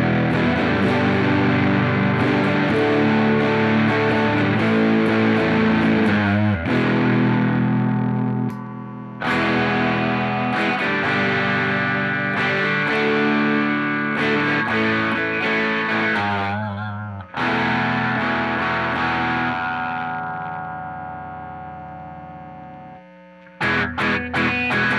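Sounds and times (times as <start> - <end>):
distorted electric guitar chords: 0.0 - 24.9.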